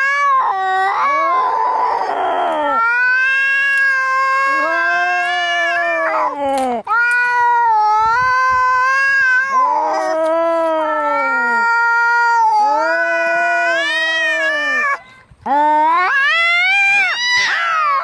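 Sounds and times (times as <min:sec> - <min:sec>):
cat yowling: 0:00.0 - 0:15.0, 0:15.9 - 0:18.0.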